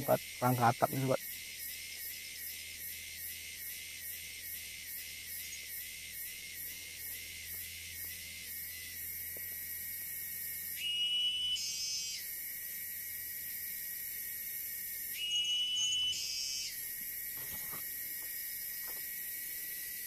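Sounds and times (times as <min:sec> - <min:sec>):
higher insect call: 0:00.0 - 0:20.0
insects droning: 0:00.0 - 0:20.0.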